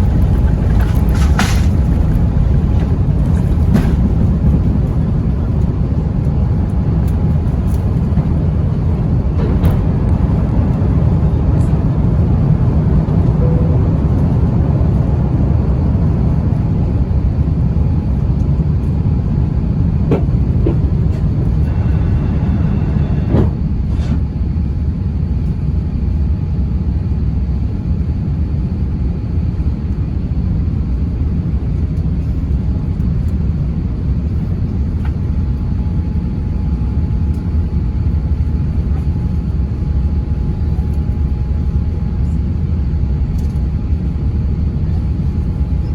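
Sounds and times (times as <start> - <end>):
airliner cabin engine rumble: 0.0 - 45.9.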